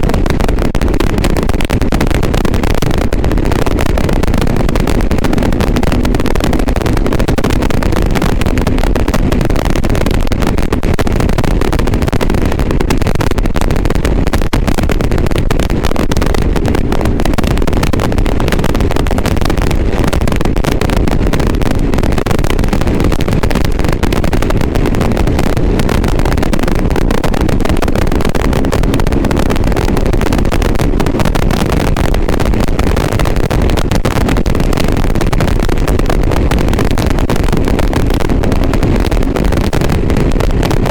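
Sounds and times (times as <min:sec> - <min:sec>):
motorcycle engine: 0:00.0 - 0:33.9, 0:34.5 - 0:40.9
wind noise: 0:00.0 - 0:40.9.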